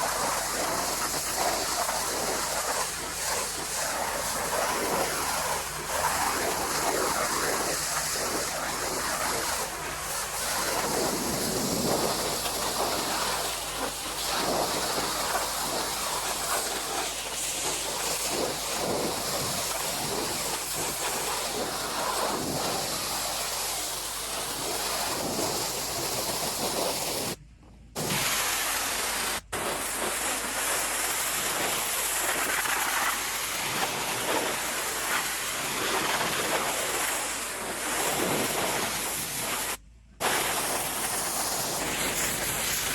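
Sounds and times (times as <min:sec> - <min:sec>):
pressure washer spraying wood: 0:00.0 - 0:27.4, 0:28.0 - 0:42.9.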